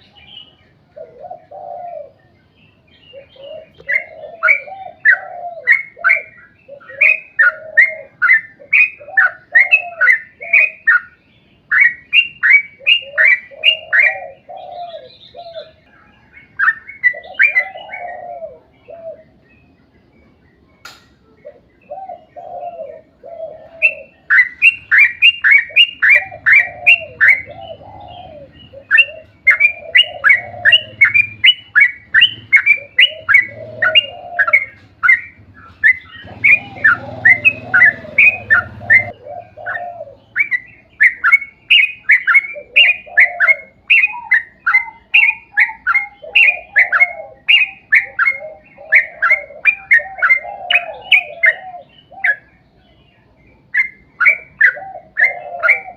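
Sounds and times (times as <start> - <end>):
bulbul song: 0.0 - 55.9.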